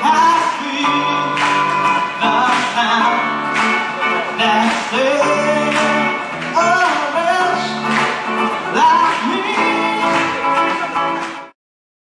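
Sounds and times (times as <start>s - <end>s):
person singing: 0.0s - 11.5s
strummed acoustic guitar: 0.0s - 11.5s.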